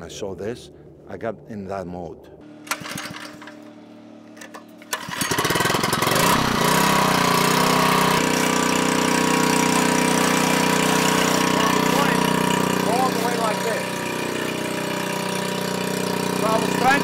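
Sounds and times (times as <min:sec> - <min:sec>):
engine starting and running: 0:02.4 - 0:17.0.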